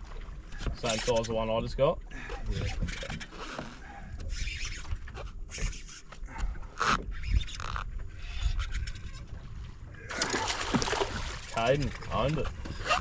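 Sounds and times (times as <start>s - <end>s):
scrapes and knocks on boat: 0.0s - 8.1s, 9.2s - 13.0s.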